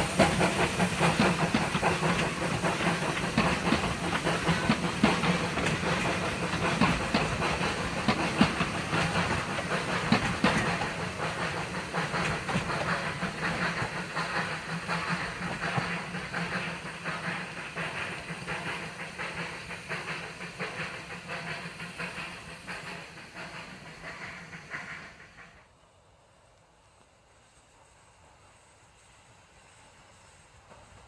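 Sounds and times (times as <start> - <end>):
train carriages rolling on rails: 0.0 - 25.6
steam locomotive hiss and exhaust: 0.0 - 31.0.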